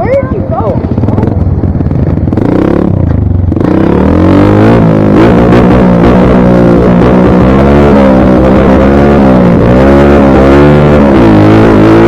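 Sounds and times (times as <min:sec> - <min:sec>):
dirt bike engine running hard: 0:00.0 - 0:12.0.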